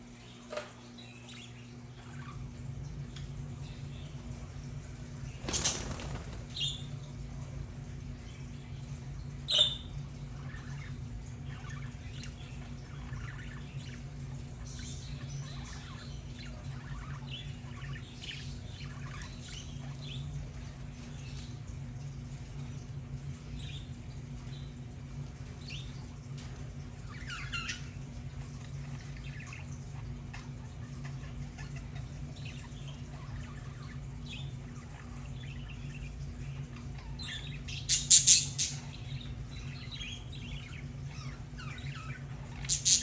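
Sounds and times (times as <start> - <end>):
steady low hum: 0.0 - 43.0
budgerigars chirping and chattering: 0.2 - 43.0.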